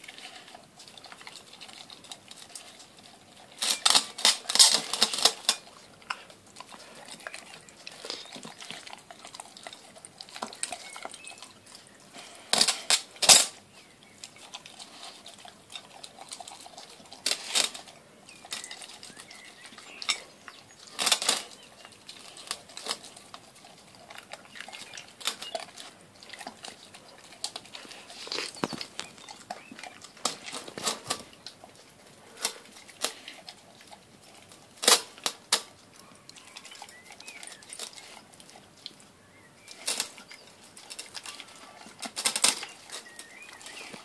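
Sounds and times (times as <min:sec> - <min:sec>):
dog eating from glass dish: 0:00.0 - 0:12.2, 0:13.1 - 0:44.0.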